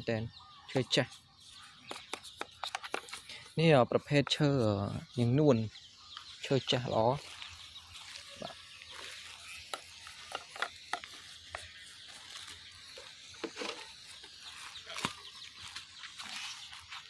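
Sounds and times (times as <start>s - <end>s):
paintbrush scratching on wood: 0.7s - 5.5s, 6.9s - 17.0s.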